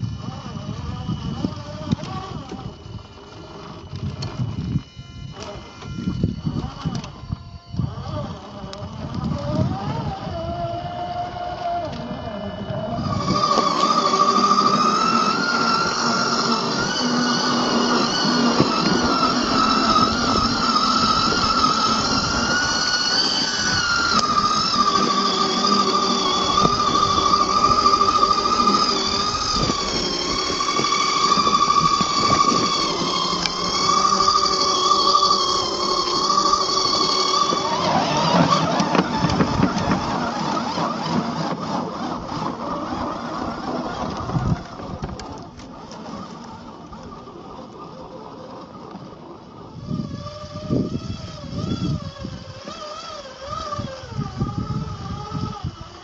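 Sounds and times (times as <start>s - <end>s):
tyres crackling on gravel: 0.0s - 54.2s
electric motor whining: 0.0s - 56.0s.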